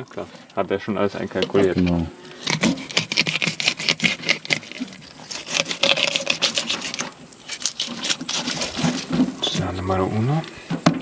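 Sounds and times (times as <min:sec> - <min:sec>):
small hard objects clattering: 0:01.0 - 0:11.0.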